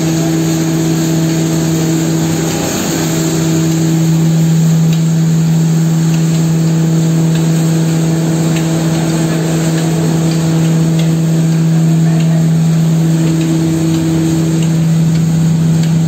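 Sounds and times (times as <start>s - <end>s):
grinding machine motor hum: 0.0s - 16.0s.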